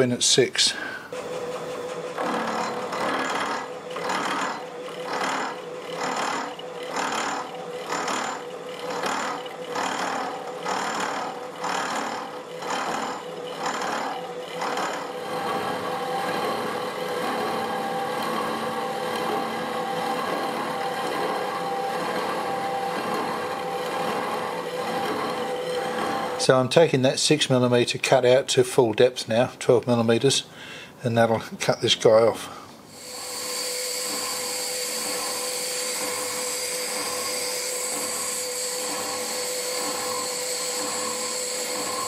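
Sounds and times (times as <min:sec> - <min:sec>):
motor humming: 0:01.1 - 0:26.5, 0:32.9 - 0:42.0
milling cutter cutting metal: 0:01.1 - 0:26.8, 0:32.9 - 0:42.0.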